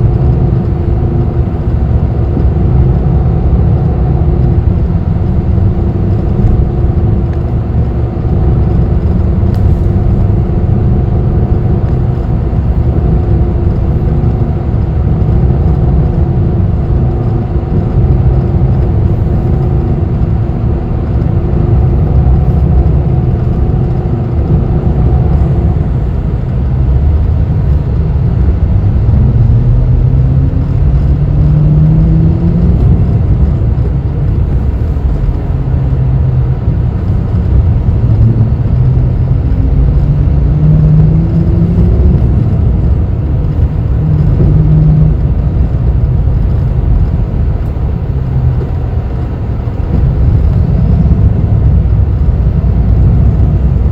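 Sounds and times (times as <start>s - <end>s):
bus engine drone: 0.0s - 53.9s
road rumble inside bus: 0.0s - 53.9s.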